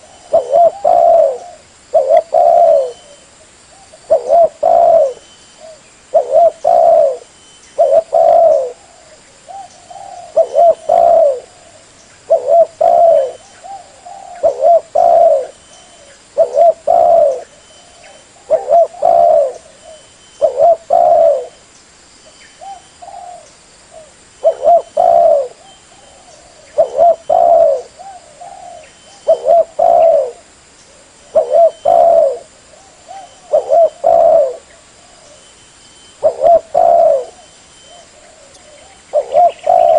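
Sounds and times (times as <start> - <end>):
dove cooing: 0.0 - 21.6, 22.6 - 35.5, 36.2 - 39.9.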